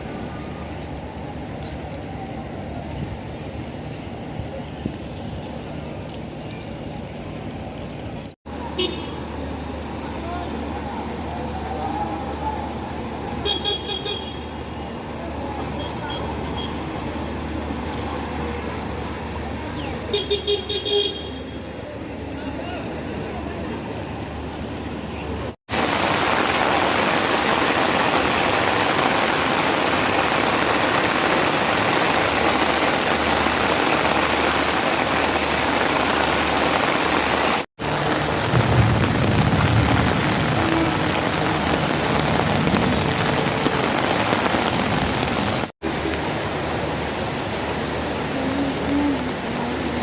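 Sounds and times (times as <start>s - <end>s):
heavy rain falling: 0.0s - 50.0s.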